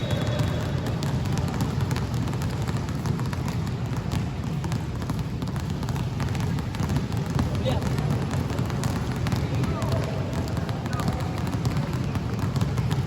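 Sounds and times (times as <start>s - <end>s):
basketballs bouncing: 0.0s - 13.0s.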